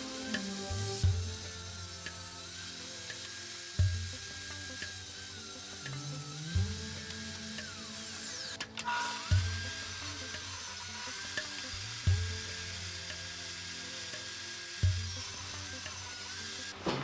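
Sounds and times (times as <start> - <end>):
background music with soft beat: 0.0 - 17.0
table saw cutting plywood: 0.0 - 17.0.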